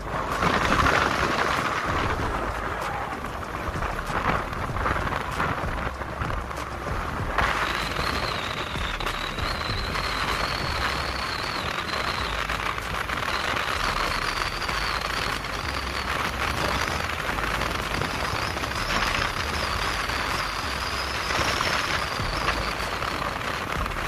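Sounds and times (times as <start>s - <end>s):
road and wind noise from vehicle: 0.0s - 24.0s
thin high whine: 0.0s - 24.0s.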